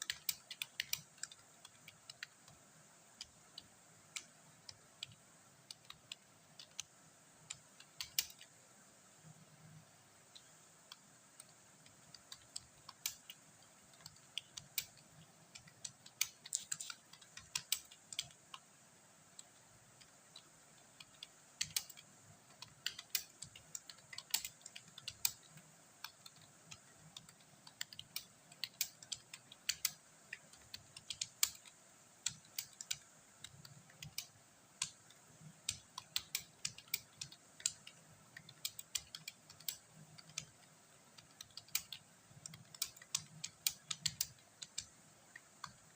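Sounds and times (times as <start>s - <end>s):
keyboard typing: 0.0s - 8.7s, 9.3s - 18.7s, 19.3s - 45.9s.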